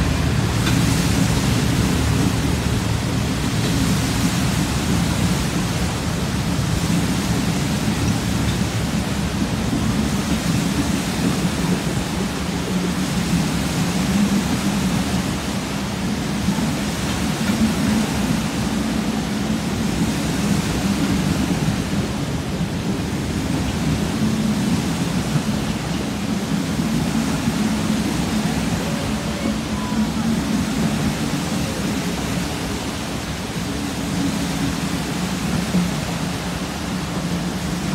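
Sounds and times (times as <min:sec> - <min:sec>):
train rumbling on rails: 0:00.0 - 0:37.9
train wheels splashing water: 0:00.0 - 0:37.9.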